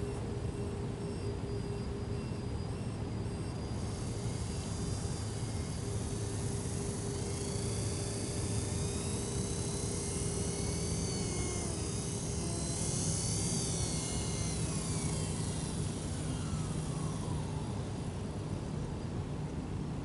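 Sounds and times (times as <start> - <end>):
model helicopter motor whine: 0.0 - 20.0.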